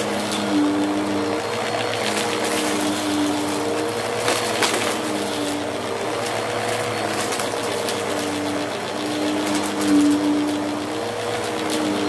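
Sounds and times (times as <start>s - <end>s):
debris crackling in vacuum: 0.0s - 12.0s
vacuum cleaner motor hum: 0.0s - 12.0s.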